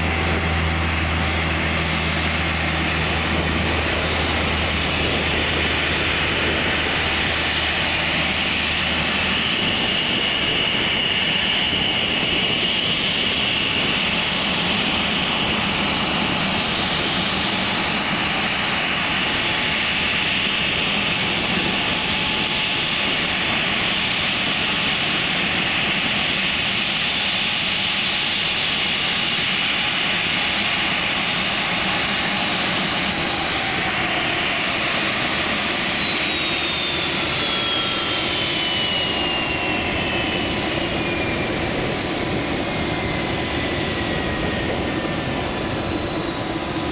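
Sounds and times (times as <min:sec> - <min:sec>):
turbine aircraft engine whining: 0:00.0 - 0:46.9.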